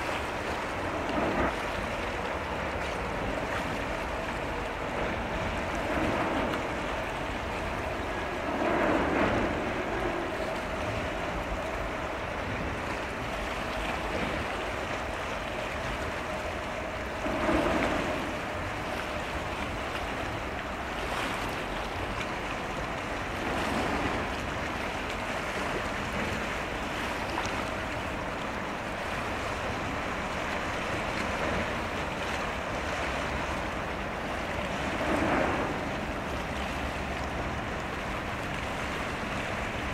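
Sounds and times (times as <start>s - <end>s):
water washing against shore: 0.0s - 39.9s
wind on microphone: 0.0s - 39.9s.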